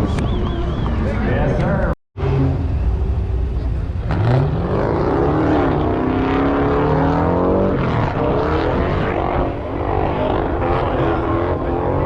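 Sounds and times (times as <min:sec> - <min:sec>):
car engine revving: 0:02.2 - 0:12.0.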